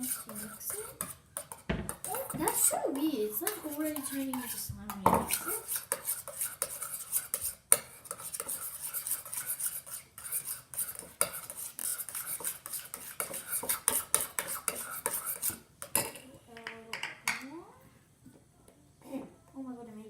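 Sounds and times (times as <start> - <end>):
utensil stirring in a bowl: 0.0 - 17.3.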